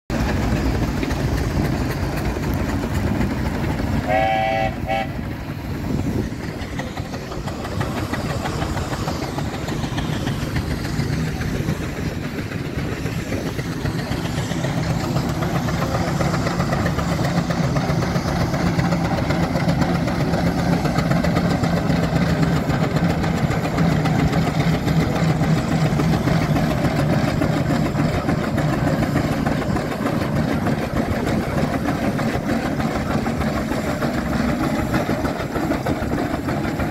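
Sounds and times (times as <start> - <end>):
steam traction engine working: 0.1 - 36.9.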